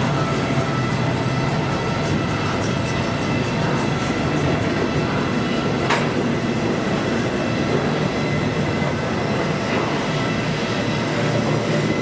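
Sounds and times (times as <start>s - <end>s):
faint high wheel squeal: 0.0s - 12.0s
train wheels rumbling on rail: 0.0s - 12.0s.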